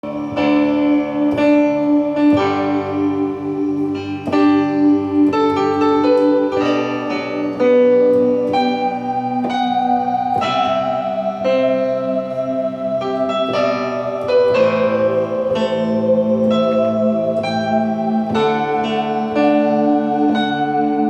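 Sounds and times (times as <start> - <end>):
synthesizer piano chords: 0.0 - 21.0.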